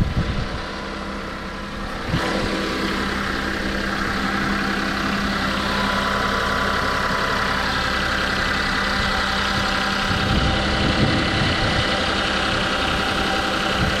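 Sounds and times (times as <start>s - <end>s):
van engine idling: 0.0s - 14.0s.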